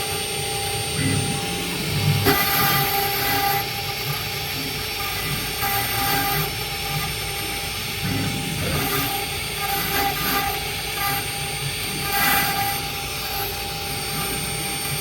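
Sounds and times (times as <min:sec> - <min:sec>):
router machine whine: 0:00.0 - 0:15.0.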